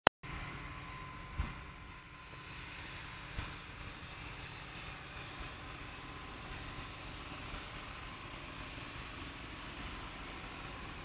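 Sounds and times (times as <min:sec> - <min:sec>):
steady outdoor hiss: 0:00.3 - 0:11.0.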